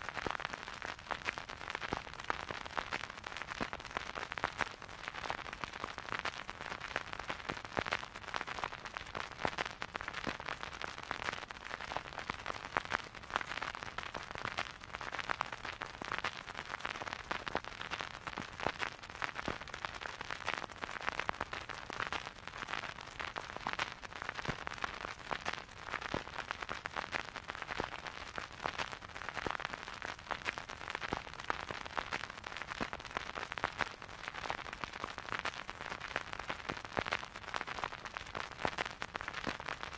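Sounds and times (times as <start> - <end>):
vinyl crackle and pops: 0.0 - 39.9.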